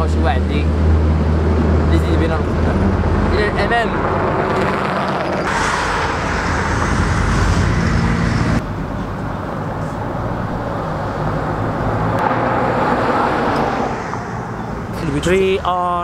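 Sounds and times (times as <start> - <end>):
cars and lorry passing: 0.0 - 16.0
steady traffic noise: 0.0 - 16.0.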